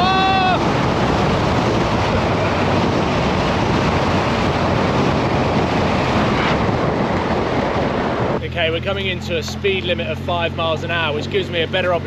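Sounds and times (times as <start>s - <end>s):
wind rushing over microphone: 0.0s - 9.8s.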